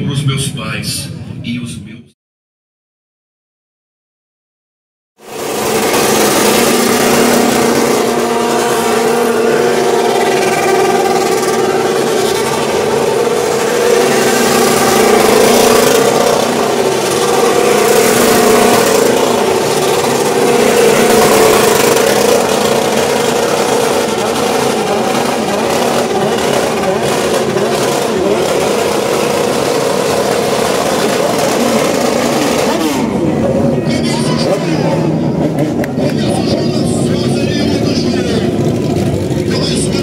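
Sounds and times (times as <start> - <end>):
motorcycle engine revving high: 5.2 - 40.0.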